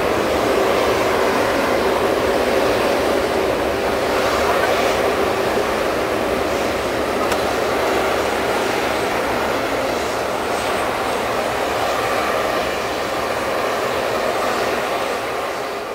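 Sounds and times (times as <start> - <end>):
jet engines roaring: 0.0 - 15.9.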